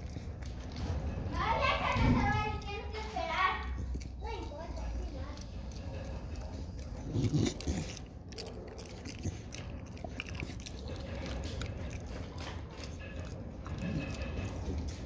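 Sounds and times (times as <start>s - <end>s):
dog gnawing and crunching chew: 0.0s - 15.0s.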